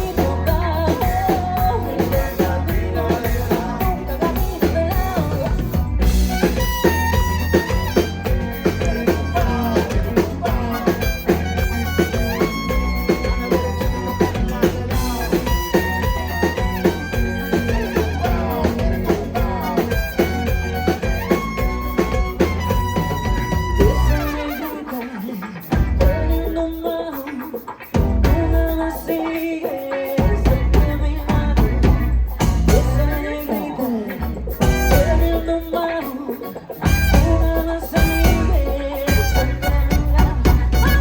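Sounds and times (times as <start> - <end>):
drum kit beat: 0.0 - 41.0
live latin pop band playing: 0.0 - 41.0.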